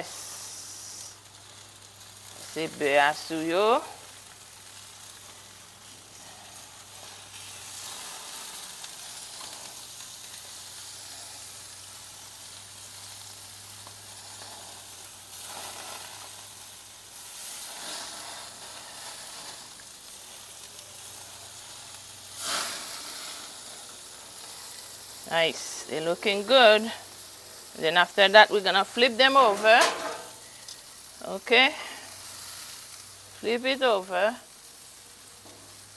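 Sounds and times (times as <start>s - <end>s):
chicken wings sizzling on a grill: 0.0s - 35.9s.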